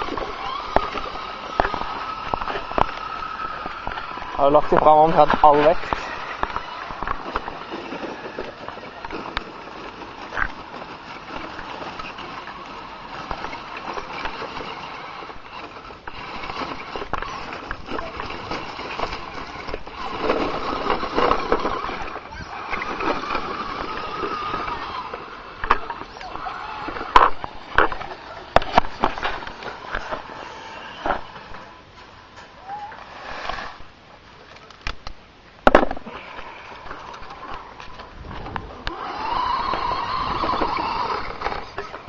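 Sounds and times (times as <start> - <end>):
toy truck motor whirring: 0.0 - 34.0, 36.1 - 42.0
wheels rolling over gravel: 0.0 - 42.0.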